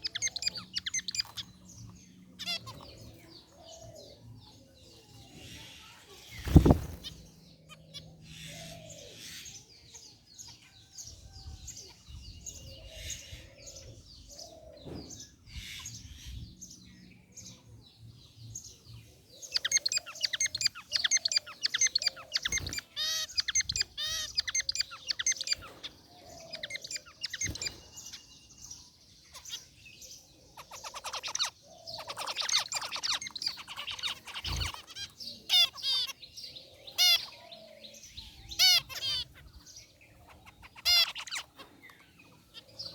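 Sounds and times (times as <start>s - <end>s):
finches chirping and singing: 0.0s - 42.9s.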